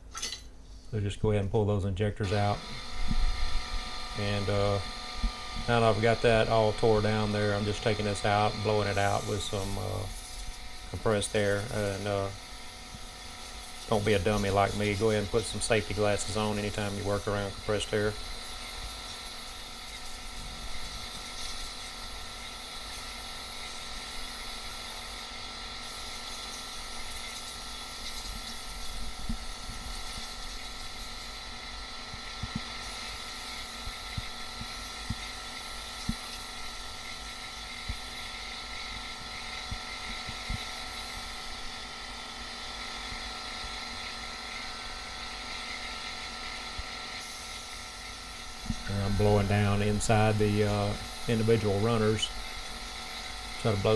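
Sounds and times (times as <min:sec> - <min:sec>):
compressed air hissing from blow gun: 0:02.3 - 0:53.9.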